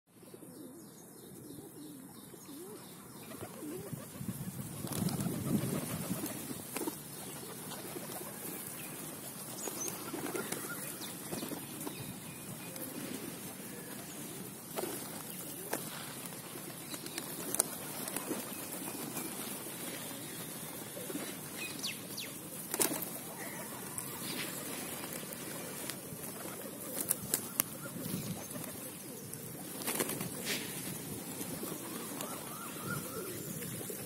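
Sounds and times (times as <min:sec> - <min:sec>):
pigeons flapping wings: 0:03.3 - 0:12.1, 0:12.8 - 0:21.6, 0:22.4 - 0:34.0.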